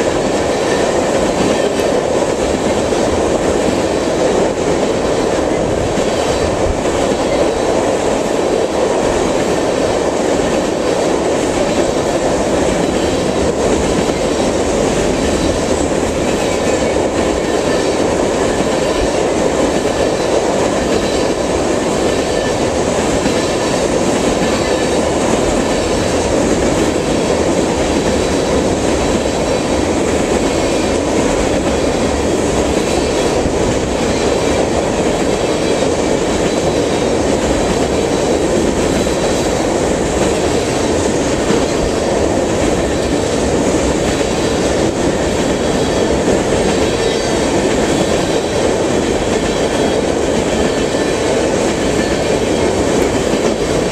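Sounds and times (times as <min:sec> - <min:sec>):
steel wheels rumbling on rail: 0:00.0 - 0:53.9
train wheels clacking: 0:00.0 - 0:53.9.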